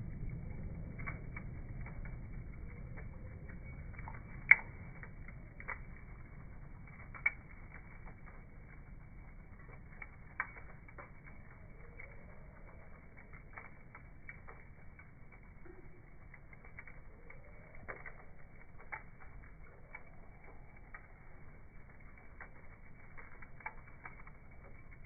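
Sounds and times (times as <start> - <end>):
bonfire crackling: 0.0 - 25.0.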